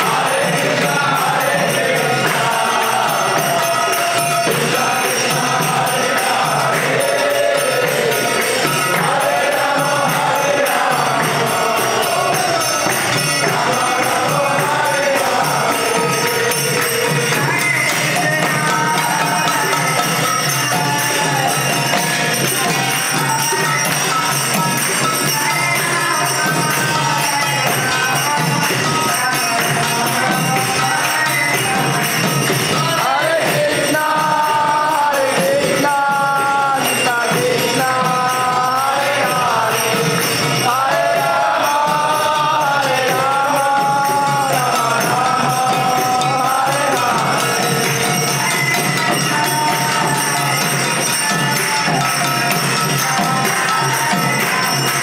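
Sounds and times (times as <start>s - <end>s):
hand drums: 0.0s - 55.0s
jingling hand cymbals: 0.0s - 55.0s.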